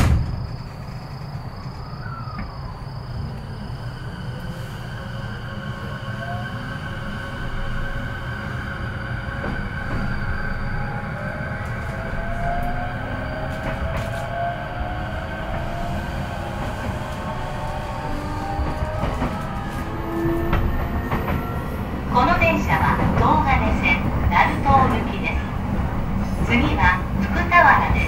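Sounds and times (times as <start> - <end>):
train motor rumble: 0.0 - 28.0.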